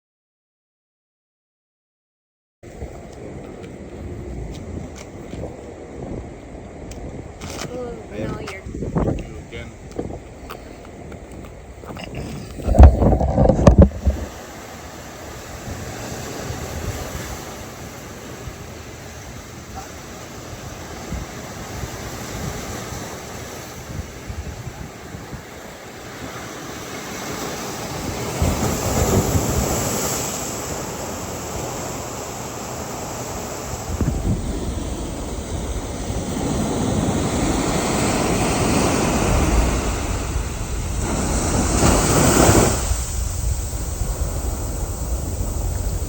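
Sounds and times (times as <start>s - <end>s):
ocean surf washing in: 2.6s - 46.0s
wind buffeting microphone: 2.6s - 46.0s.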